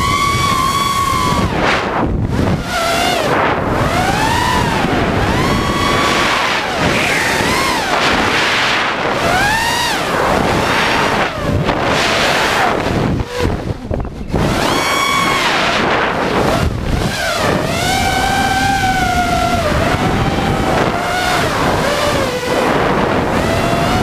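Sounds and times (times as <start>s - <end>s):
quadcopter motors whining: 0.0s - 24.0s
wind on microphone: 0.0s - 24.0s.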